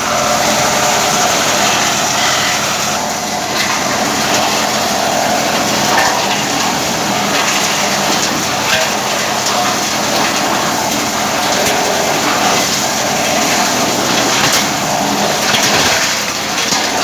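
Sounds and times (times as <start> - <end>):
wood chipper running: 0.0 - 17.0.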